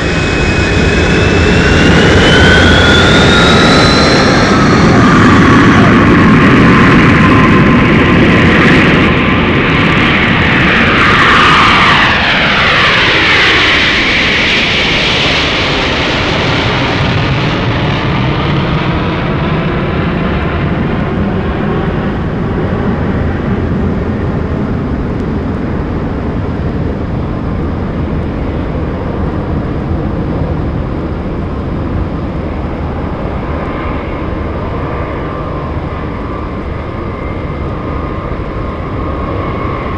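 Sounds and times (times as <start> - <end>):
aircraft engine drone passing over: 0.0 - 39.9.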